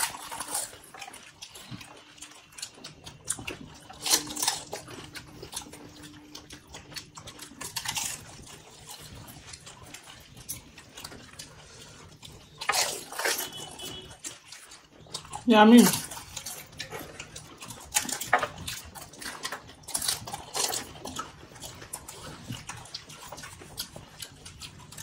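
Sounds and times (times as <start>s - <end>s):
wet chewing and slurping: 0.0s - 25.0s.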